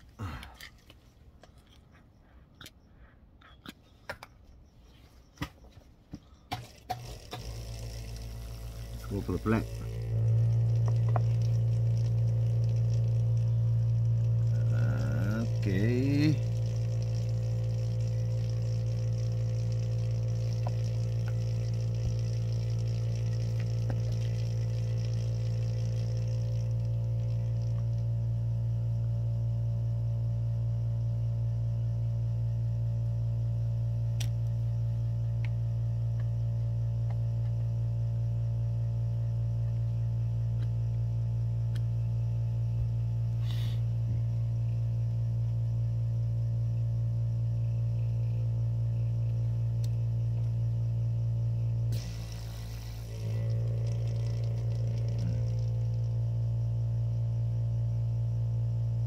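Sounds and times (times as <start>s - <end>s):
small electric pump humming: 5.3s - 59.0s.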